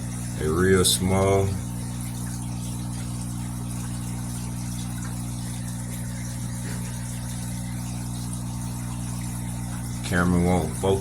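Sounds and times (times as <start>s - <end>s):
aquarium equipment humming: 0.0s - 11.0s.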